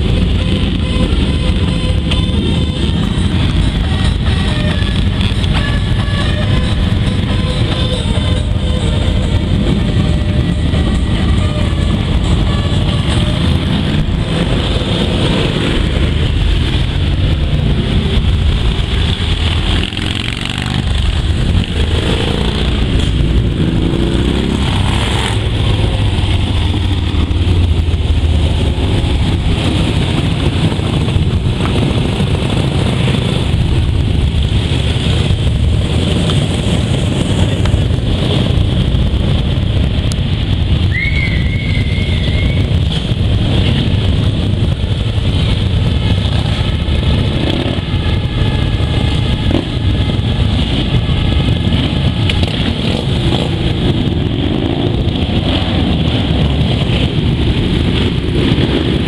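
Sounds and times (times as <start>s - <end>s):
motorcycles rumbling and revving: 0.0s - 59.0s.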